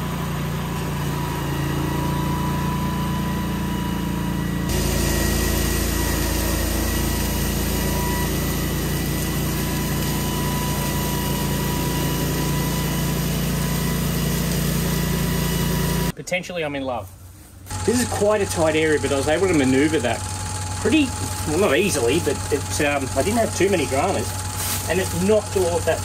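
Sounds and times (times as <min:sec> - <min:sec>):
flail mower running: 0:00.0 - 0:16.1, 0:17.7 - 0:26.0.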